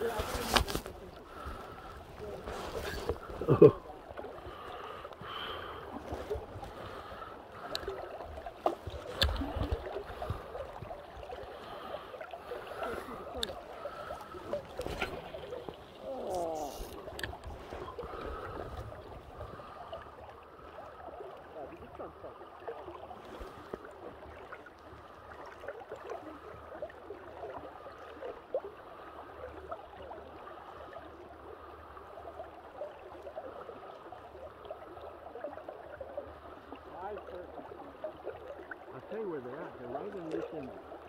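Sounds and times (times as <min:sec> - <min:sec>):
water lapping against boat hull: 0:00.0 - 0:41.0.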